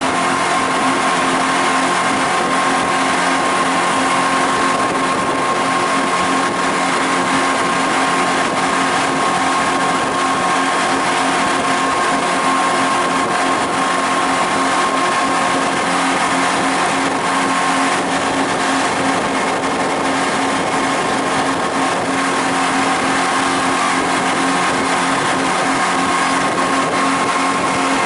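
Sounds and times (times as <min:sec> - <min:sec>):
rushing water: 0:00.0 - 0:28.0
speedboat engine droning: 0:00.0 - 0:28.0.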